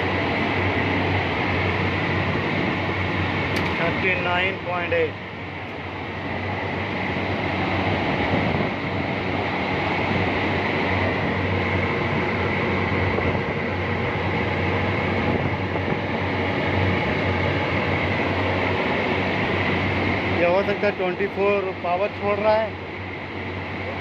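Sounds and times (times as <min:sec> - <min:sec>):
air conditioner fan hum: 0:00.0 - 0:24.0.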